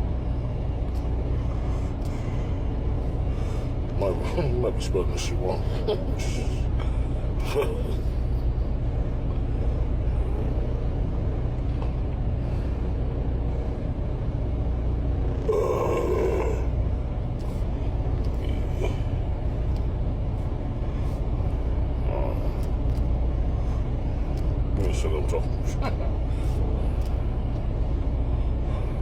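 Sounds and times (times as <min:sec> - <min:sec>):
truck engine droning: 0:00.0 - 0:29.0.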